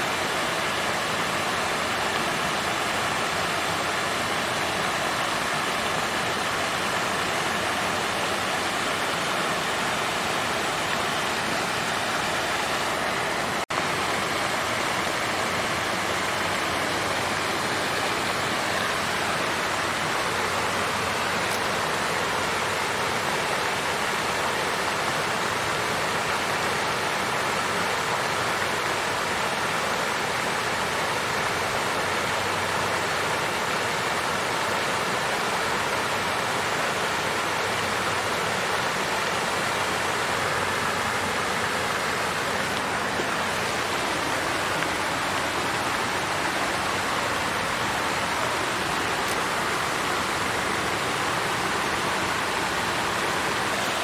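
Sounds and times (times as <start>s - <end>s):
water fountain splashing: 0.0s - 54.0s.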